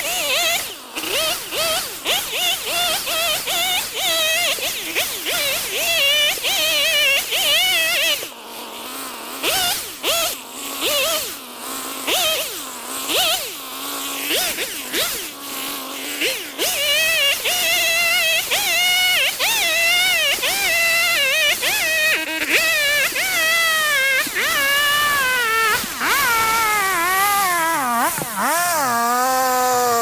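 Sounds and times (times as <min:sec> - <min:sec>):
chainsaw engine revving: 0:00.0 - 0:30.0.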